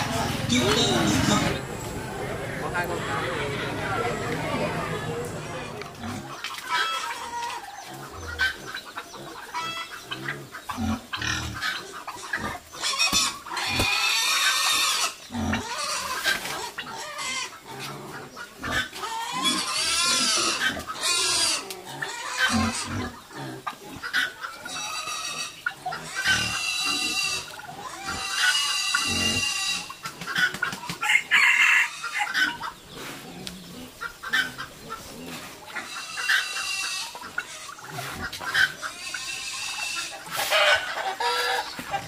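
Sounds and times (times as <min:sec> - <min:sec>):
pigs squealing: 0:00.0 - 0:42.0.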